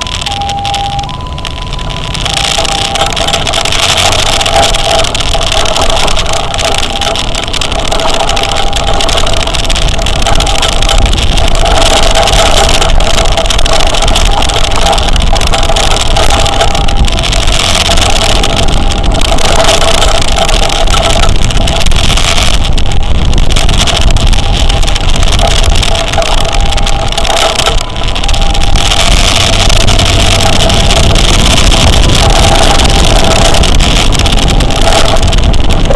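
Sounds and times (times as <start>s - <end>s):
two-tone emergency siren: 0.0s - 12.1s, 12.8s - 21.2s, 22.2s - 35.0s
road noise: 0.0s - 35.9s
rushing wind: 0.0s - 35.9s
vehicle engine: 0.0s - 35.9s.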